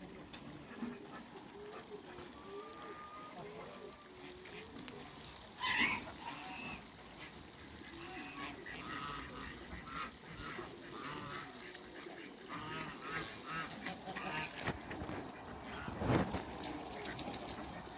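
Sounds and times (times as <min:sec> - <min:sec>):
ducks and geese calling: 0:00.0 - 0:17.9.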